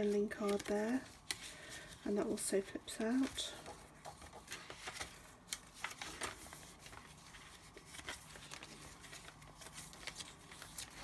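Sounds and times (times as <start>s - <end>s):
paper pages rustling: 0.0s - 11.0s.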